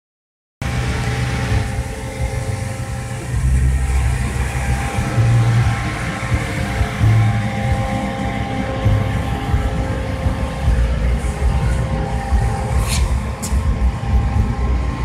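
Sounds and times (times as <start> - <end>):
car engine rumbling by: 0.6 - 15.0.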